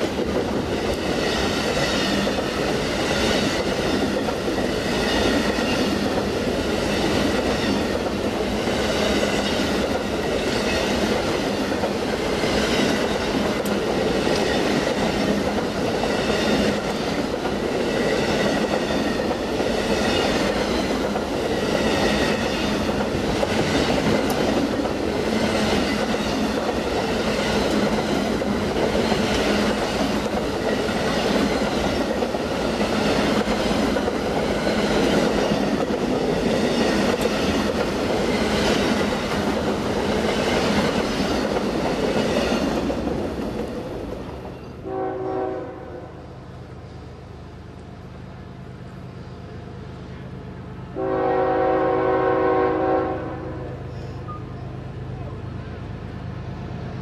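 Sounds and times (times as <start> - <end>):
train wheels rumbling and clattering: 0.0 - 45.7.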